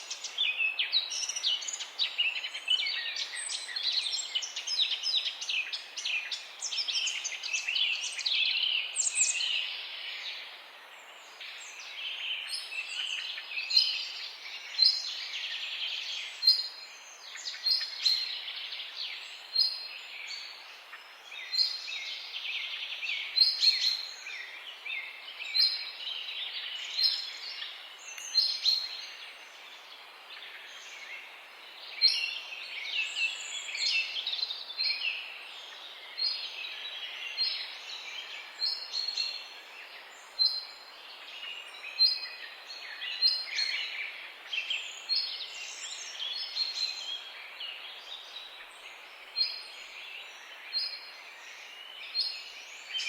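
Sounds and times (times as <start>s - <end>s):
songbirds chirping and trilling: 0.0s - 53.0s
steady background hiss: 0.0s - 53.0s.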